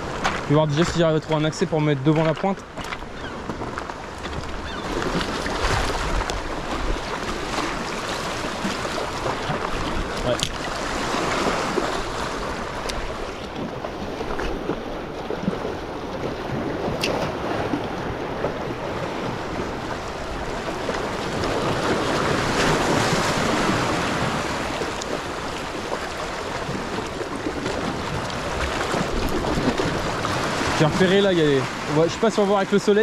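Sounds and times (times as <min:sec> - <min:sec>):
waves washing over rocks: 0:00.0 - 0:33.0.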